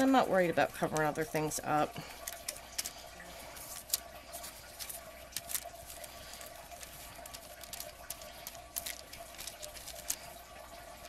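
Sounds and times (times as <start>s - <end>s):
faint background hum: 0.0s - 11.0s
wet paper crinkling: 0.0s - 11.0s.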